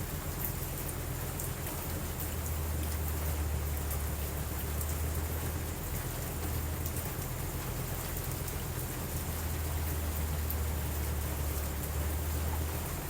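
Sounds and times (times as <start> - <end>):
faint ticks of raindrops: 0.0 - 13.0.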